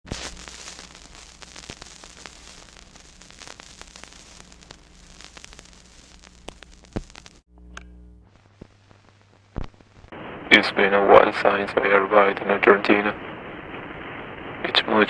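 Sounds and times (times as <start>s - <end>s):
crackles and clicks: 0.0s - 15.0s
low steady hum: 0.1s - 15.0s
steady hiss: 0.1s - 15.0s.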